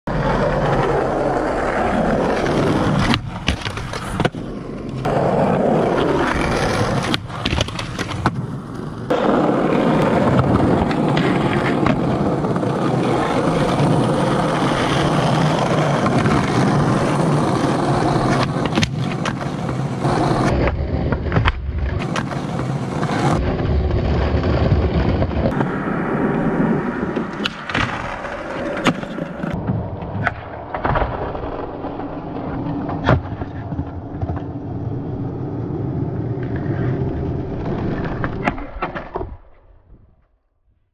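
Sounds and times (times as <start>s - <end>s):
skateboard clacks and landings: 0.1s - 39.7s
skateboard wheels rolling on concrete: 0.1s - 40.2s.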